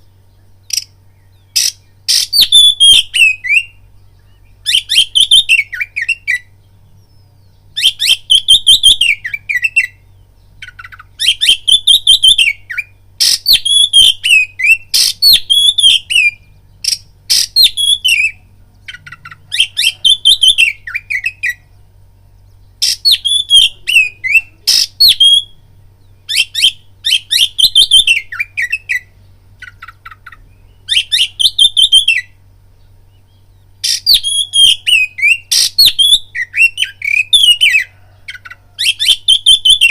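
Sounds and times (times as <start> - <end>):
faint low hum: 0.0 - 39.9
bird singing whistles and chatter: 0.6 - 21.7, 22.7 - 32.4, 33.2 - 38.1, 38.8 - 39.9.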